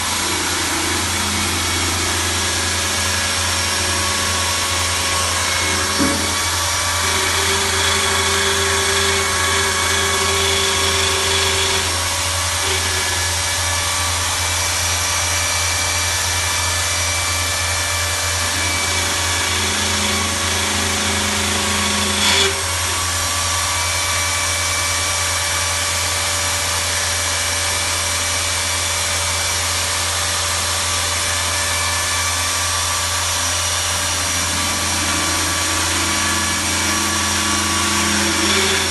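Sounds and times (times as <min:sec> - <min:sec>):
lathe power tool motor whine: 0:00.0 - 0:38.9.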